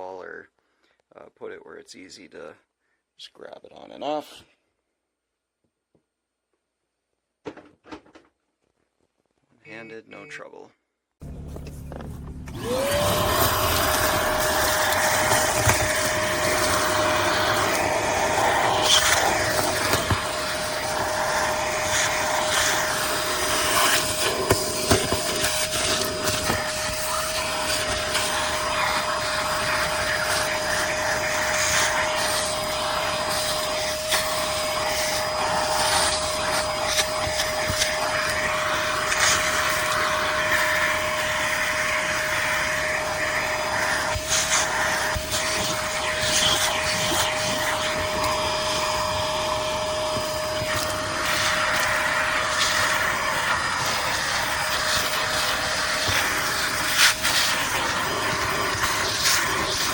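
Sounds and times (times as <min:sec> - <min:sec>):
vacuum motor whine: 0:11.2 - 0:59.9.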